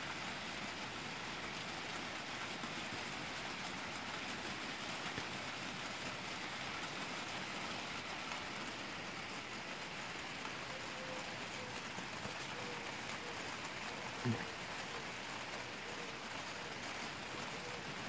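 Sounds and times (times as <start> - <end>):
steady rain on trees: 0.0 - 18.0.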